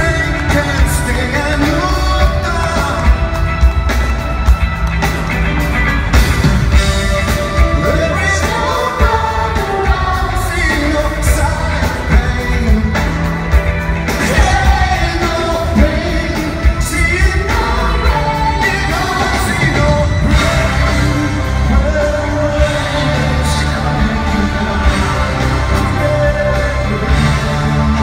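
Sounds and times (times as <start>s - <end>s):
man singing into microphone: 0.0s - 3.3s, 7.7s - 13.5s, 14.2s - 28.0s
drums: 0.0s - 28.0s.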